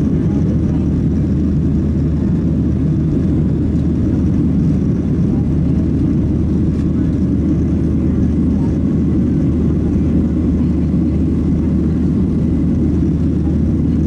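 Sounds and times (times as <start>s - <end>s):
jet engines: 0.0s - 14.0s.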